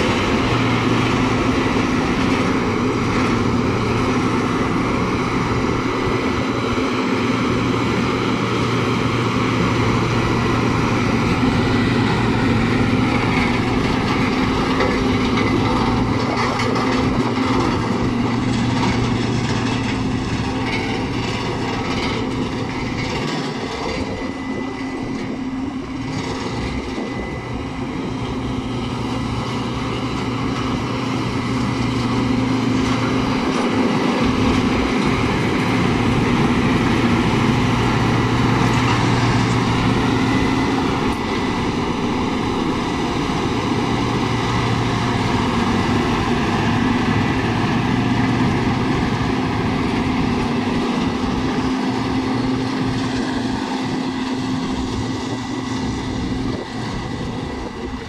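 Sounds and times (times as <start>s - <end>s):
diesel roller engine running: 0.0s - 58.0s.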